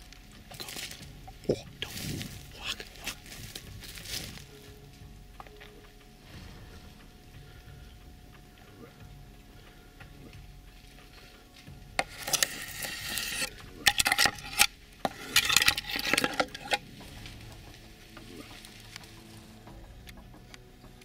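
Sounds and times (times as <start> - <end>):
dry branches scraping and snapping: 0.0 - 9.0, 9.6 - 20.6.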